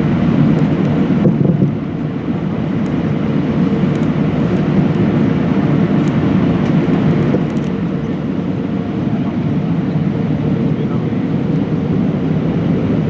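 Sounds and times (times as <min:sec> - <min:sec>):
jet engines rumbling in cabin: 0:00.0 - 0:13.0.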